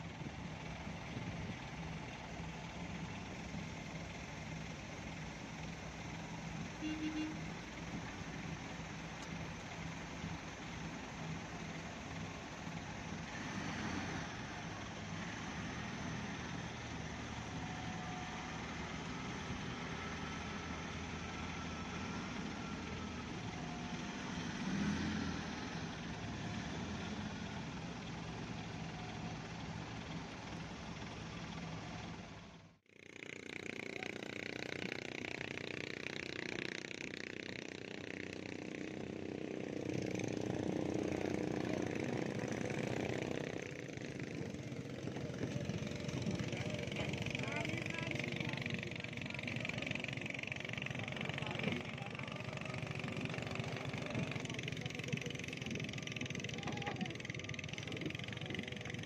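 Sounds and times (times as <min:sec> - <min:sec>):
haul truck diesel engine passing: 0:00.0 - 0:59.0.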